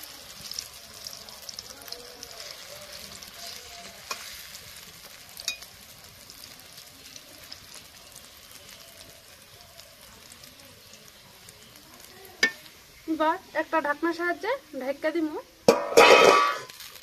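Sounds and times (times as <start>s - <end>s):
batter sizzling in hot oil: 0.0s - 17.0s.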